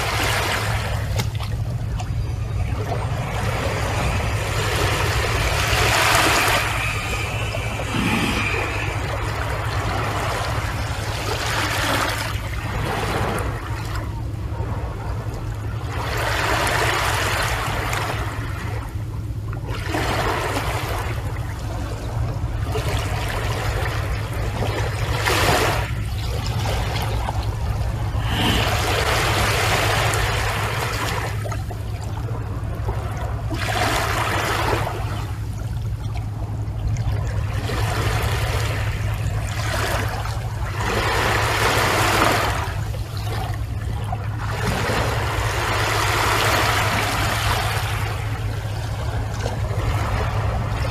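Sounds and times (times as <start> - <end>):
sea waves washing onto shore: 0.0 - 35.9, 36.6 - 50.9
steady low rumble: 0.0 - 50.9.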